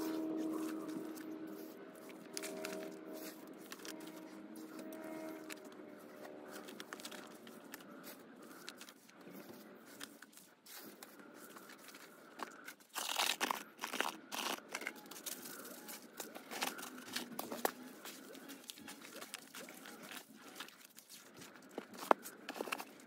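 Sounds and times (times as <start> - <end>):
hands digging through compost: 0.0 - 23.0.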